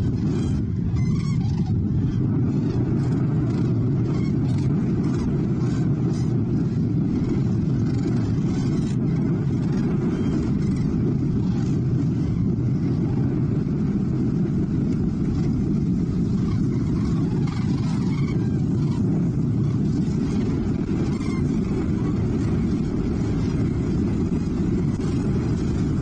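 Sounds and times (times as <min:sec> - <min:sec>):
faint crane calls: 0:00.0 - 0:13.9, 0:15.0 - 0:26.0.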